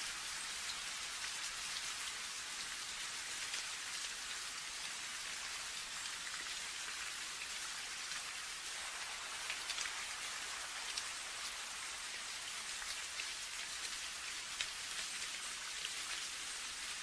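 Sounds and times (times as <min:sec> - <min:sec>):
raindrops ticking on a surface: 0:00.0 - 0:17.0
steady rain falling: 0:00.0 - 0:17.0.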